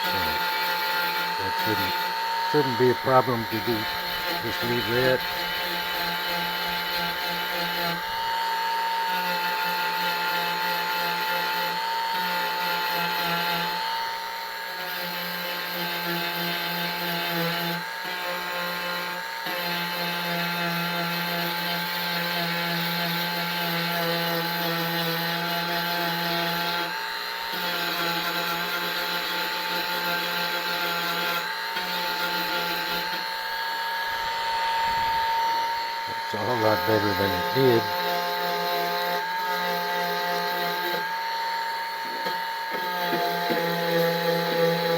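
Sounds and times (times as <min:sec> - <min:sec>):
rotary tool whining on plastic: 0:00.0 - 0:44.9.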